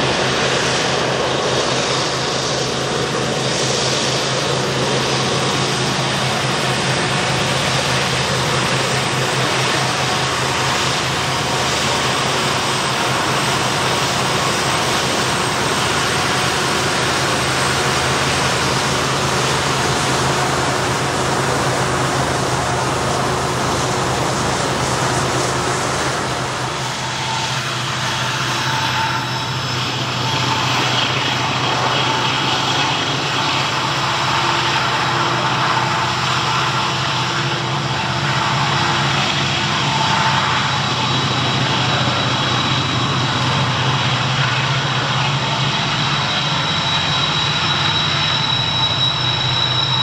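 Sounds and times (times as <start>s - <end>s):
drone propellers humming: 0.0s - 50.0s.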